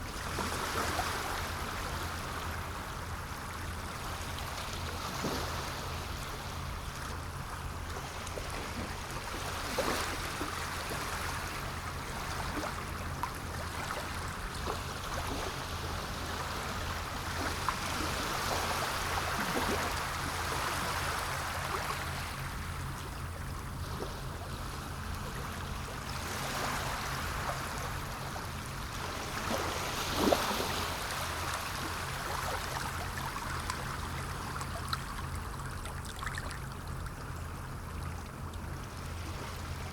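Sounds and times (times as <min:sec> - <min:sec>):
sea water washing on shore: 0:00.0 - 0:39.9
steady low hum: 0:00.0 - 0:39.9.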